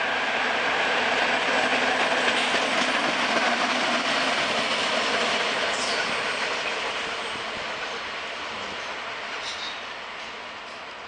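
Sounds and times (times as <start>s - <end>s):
electric locomotive passing: 0.0s - 11.0s.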